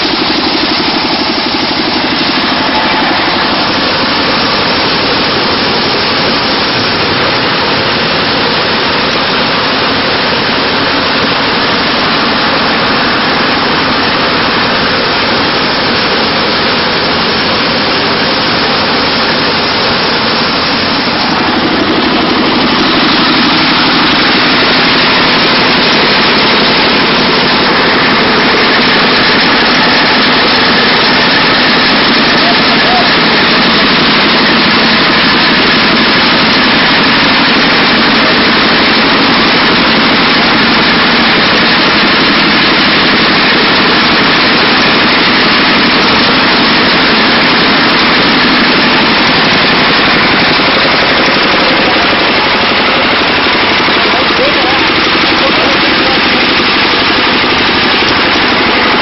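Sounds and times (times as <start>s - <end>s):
thresher machine running: 0.0s - 59.0s.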